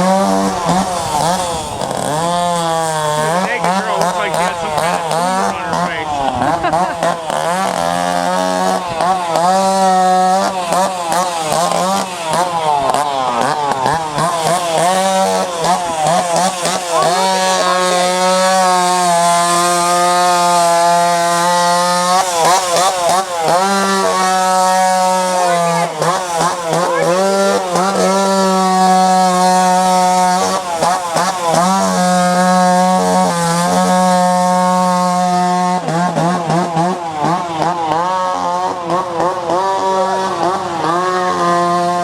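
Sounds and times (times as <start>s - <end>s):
chainsaw revving while cutting: 0.0s - 42.0s.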